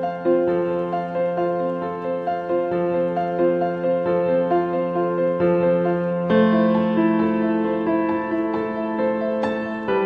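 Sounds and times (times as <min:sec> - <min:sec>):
soft slow piano melody: 0:00.0 - 0:10.0.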